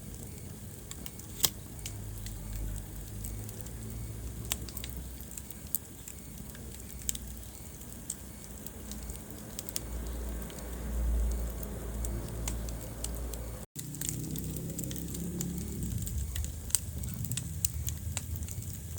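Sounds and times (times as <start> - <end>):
low rush of flame: 0.0 - 18.9
wood fire crackling: 0.0 - 18.9.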